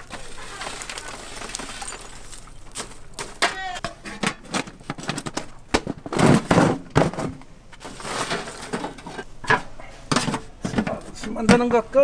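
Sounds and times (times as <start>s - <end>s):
crunching scrapes: 0.0s - 11.4s.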